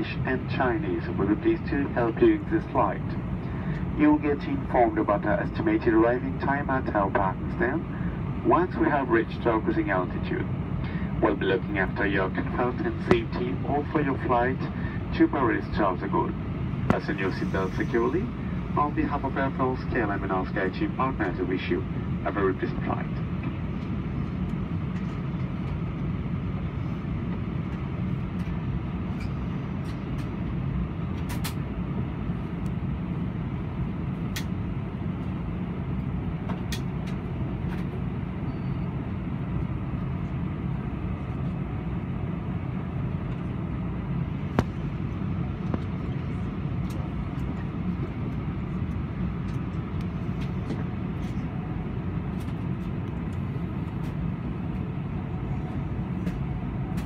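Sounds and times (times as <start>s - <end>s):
air conditioning rumble: 0.0s - 57.0s.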